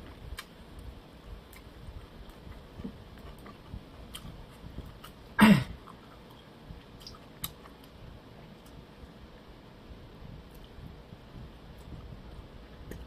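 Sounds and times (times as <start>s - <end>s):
person chewing food: 0.0s - 9.2s, 10.4s - 13.0s.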